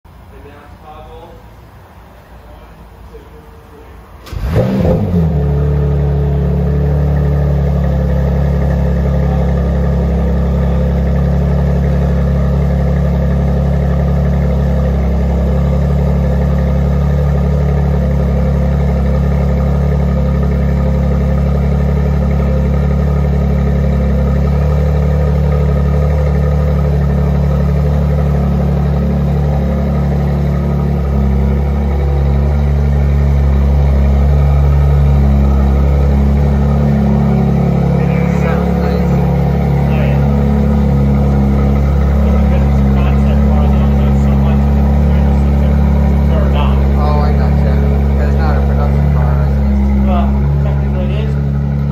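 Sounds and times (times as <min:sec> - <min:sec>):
car engine starting and idling: 0:00.1 - 0:51.9.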